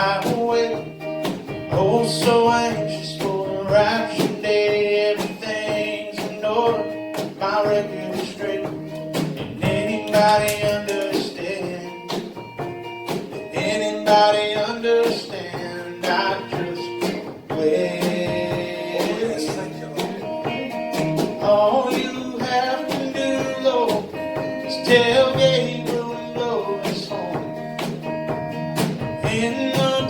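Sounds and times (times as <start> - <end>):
person singing: 0.0 - 1.0, 1.7 - 12.2, 13.5 - 27.7, 29.2 - 30.0
country gospel band with guitar: 0.0 - 30.0.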